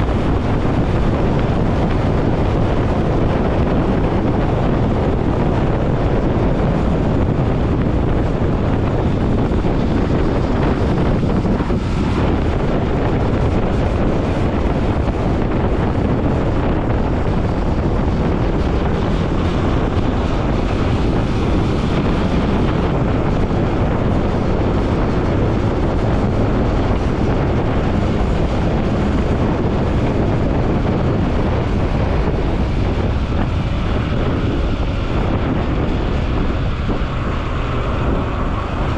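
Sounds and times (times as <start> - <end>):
motorcycle engine: 0.0 - 38.9
traffic: 0.0 - 38.9
wind buffeting microphone: 0.0 - 38.9.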